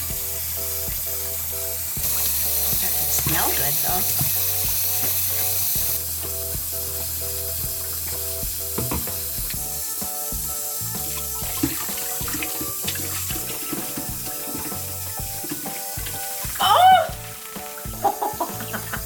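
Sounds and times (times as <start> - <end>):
background music with bass: 0.0 - 19.0
running water hissing: 0.0 - 19.0.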